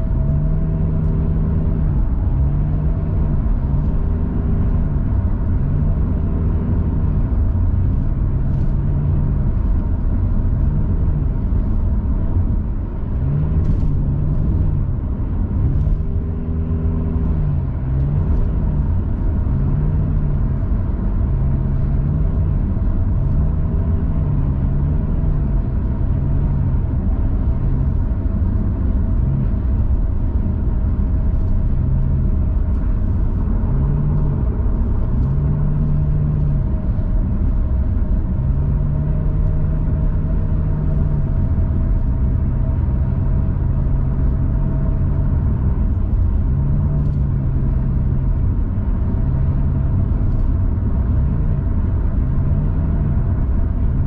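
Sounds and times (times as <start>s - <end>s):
car cabin road rumble: 0.0s - 54.0s
low hum: 0.0s - 54.0s.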